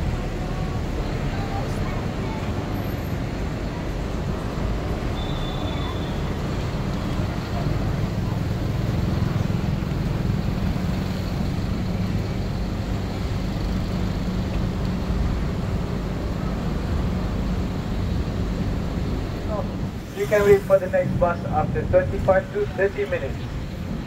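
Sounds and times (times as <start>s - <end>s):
bus engine rumbling: 0.0s - 24.0s
city traffic noise: 0.0s - 24.0s.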